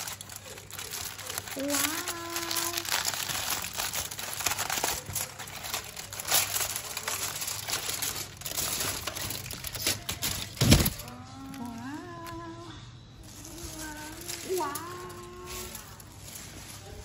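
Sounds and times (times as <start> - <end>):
aluminium foil crinkling: 0.0 - 12.4, 13.2 - 17.0.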